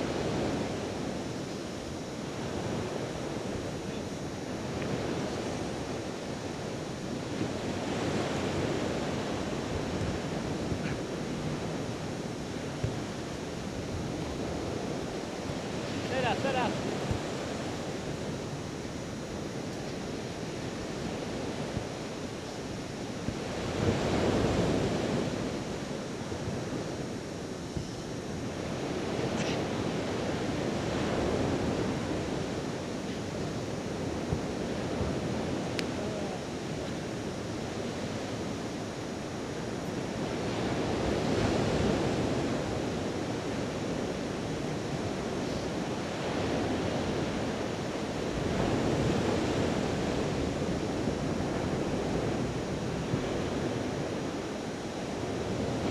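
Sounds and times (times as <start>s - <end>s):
sea surf on beach: 0.0s - 55.9s
wind on microphone: 0.0s - 55.9s.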